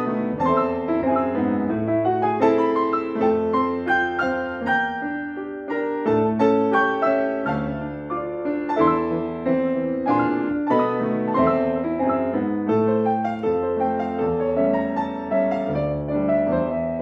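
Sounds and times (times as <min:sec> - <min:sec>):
piano duet: 0:00.0 - 0:17.0.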